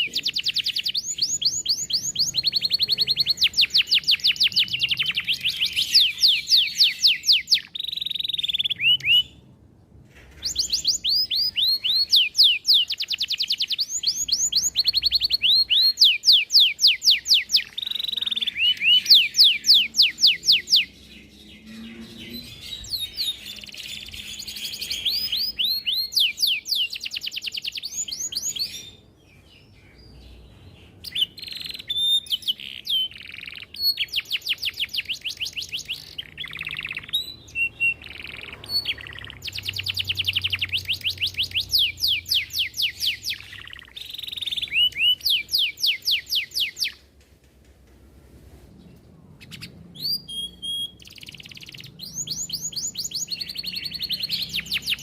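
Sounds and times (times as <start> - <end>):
canary singing trills: 0.0 - 9.5, 10.3 - 47.0, 49.4 - 55.0.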